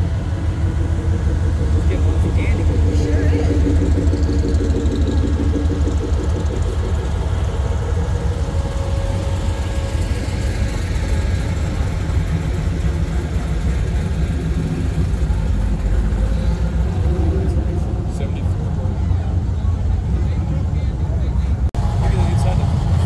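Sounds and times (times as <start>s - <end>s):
car engines idling past: 0.0s - 23.0s.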